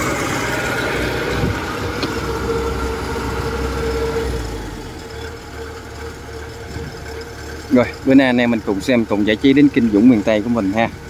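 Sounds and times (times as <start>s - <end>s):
combine harvester diesel engine: 0.0s - 11.0s.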